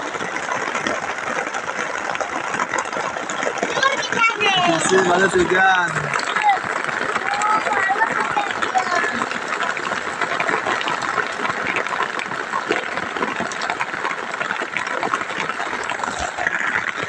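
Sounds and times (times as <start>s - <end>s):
heavy rain hitting a tent: 0.0s - 17.0s.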